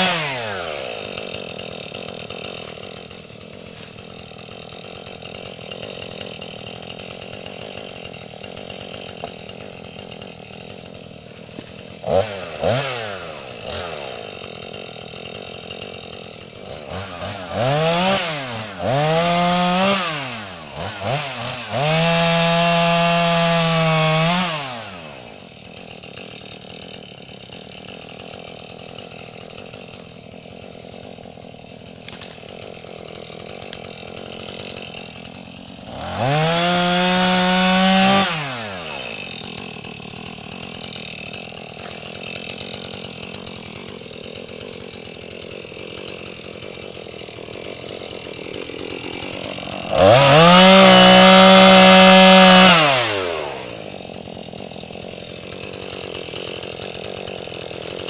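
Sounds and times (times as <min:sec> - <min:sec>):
chainsaw idling and revving: 0:00.0 - 0:58.0.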